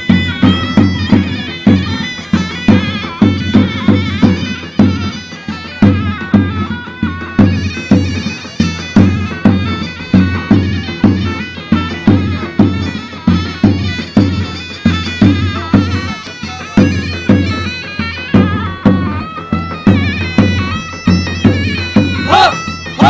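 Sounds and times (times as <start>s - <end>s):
reedy shawm melody: 0.0s - 23.0s.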